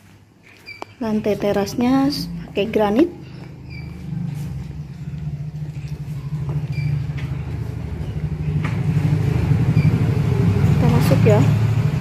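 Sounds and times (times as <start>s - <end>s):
vehicle engine running: 1.3s - 12.0s.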